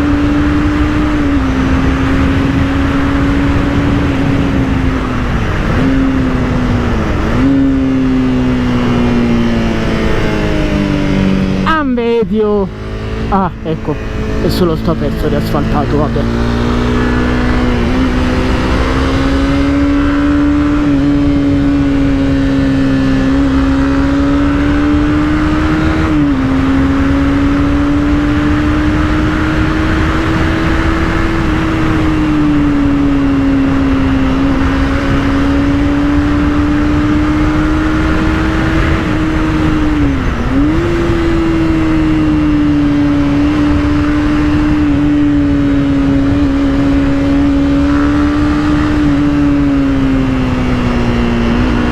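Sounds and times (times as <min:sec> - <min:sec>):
motorcycle engine cruising: 0:00.0 - 0:51.9.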